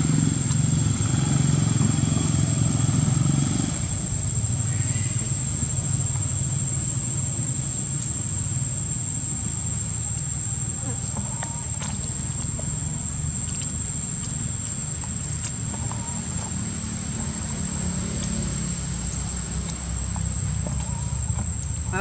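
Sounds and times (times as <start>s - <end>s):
continuous low rumble: 0.0s - 22.0s
high-pitched insect drone: 0.0s - 22.0s.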